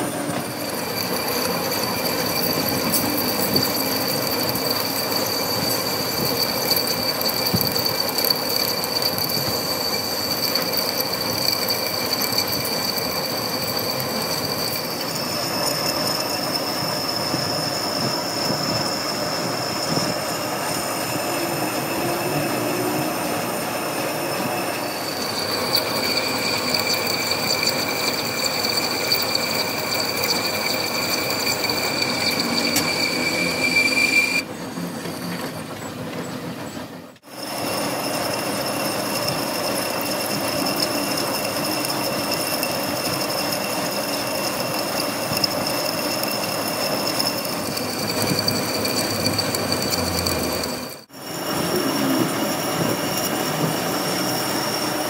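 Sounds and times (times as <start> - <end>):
harsh metal cutting noise: 0.0 - 36.5, 37.2 - 55.0
machine tool squealing: 0.0 - 55.0.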